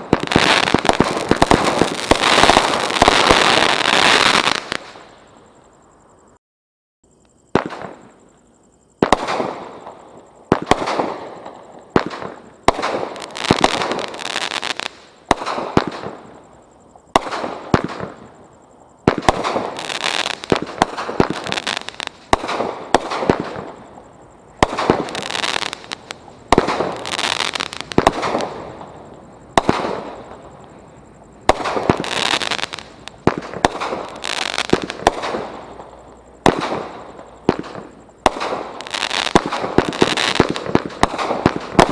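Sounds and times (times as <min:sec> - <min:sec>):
fireworks exploding: 0:00.0 - 0:05.2, 0:07.5 - 0:08.2, 0:09.0 - 0:18.4, 0:19.0 - 0:41.9.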